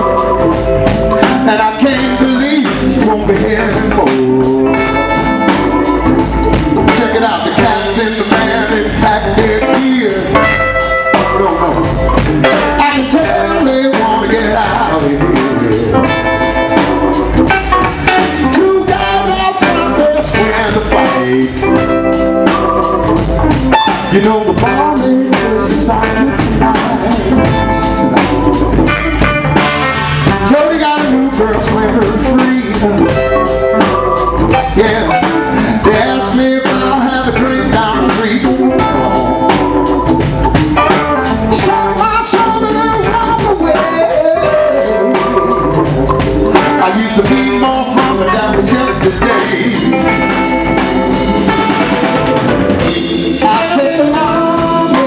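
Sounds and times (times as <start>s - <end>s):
blues band playing: 0.0s - 55.0s.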